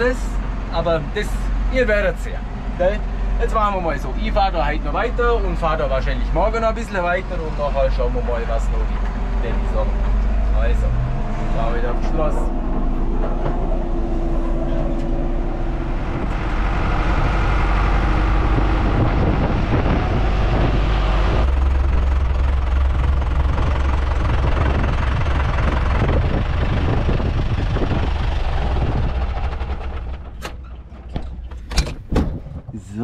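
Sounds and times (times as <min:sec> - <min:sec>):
vehicle engine running: 0:00.0 - 0:31.7.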